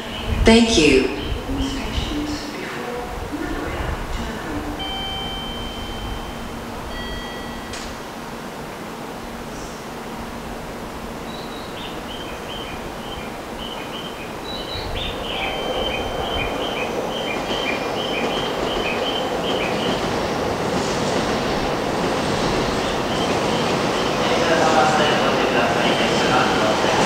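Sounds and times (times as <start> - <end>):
train rushing rumble: 0.0 - 27.0.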